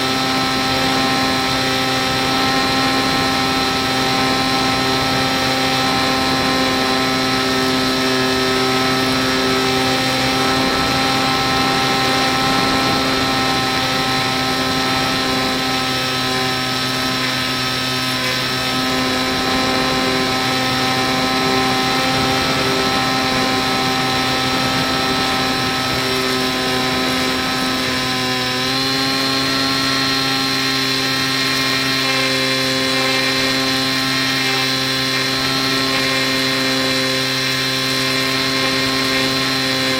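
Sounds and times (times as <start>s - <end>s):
model plane propeller buzzing whine: 0.0s - 39.9s.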